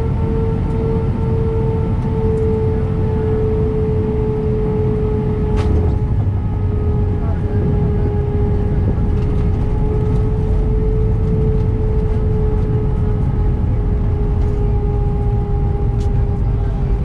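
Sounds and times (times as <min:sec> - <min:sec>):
jet engine whine: 0:00.0 - 0:17.0
low cabin rumble: 0:00.0 - 0:17.0.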